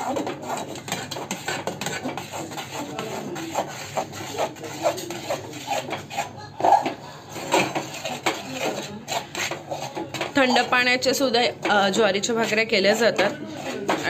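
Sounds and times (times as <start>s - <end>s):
metal spoon scraping metal pot: 0.0s - 14.0s.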